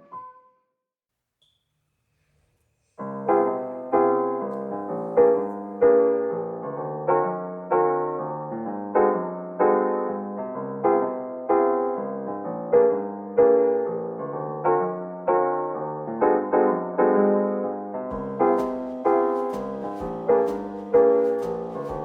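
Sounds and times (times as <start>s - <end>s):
soft piano chords: 3.0s - 22.0s.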